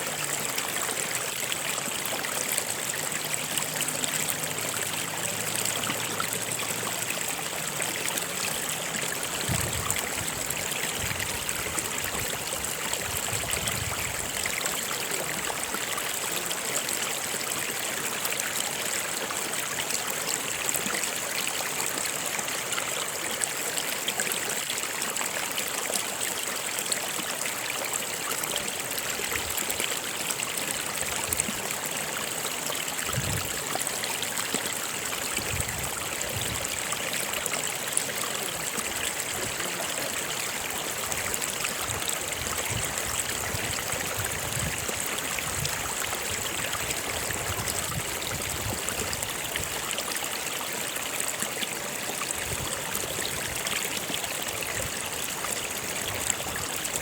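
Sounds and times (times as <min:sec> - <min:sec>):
stream rushing and trickling: 0:00.0 - 0:57.0.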